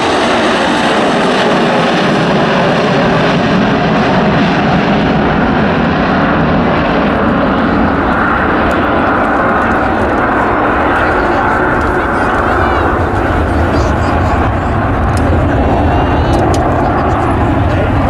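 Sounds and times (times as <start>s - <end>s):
aircraft engine flying close: 0.0s - 18.0s.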